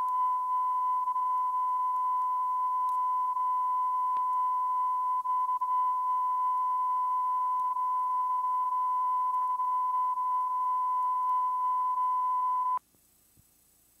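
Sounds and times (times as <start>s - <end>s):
steady beep test tone: 0.0s - 12.8s.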